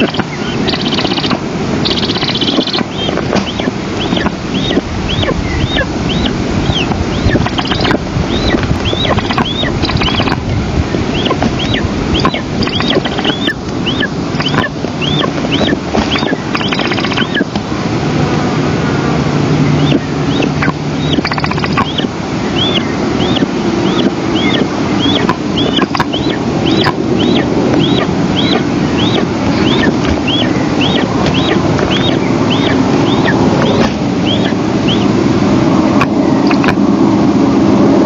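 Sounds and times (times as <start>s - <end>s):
eagle calling: 0.0s - 17.5s, 19.6s - 35.2s
steady rushing noise: 0.0s - 38.0s.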